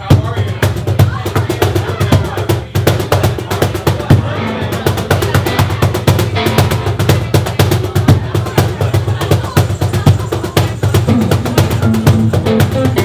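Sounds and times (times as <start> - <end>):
cajon played by hand: 0.0 - 13.0.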